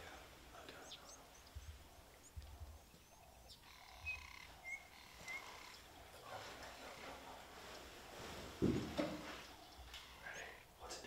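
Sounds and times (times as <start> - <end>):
faint bird chirps: 0.0 - 7.8, 9.3 - 11.0.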